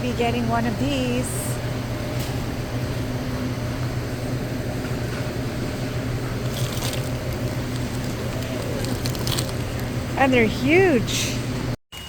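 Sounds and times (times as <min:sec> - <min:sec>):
air handling hum: 0:00.0 - 0:11.8.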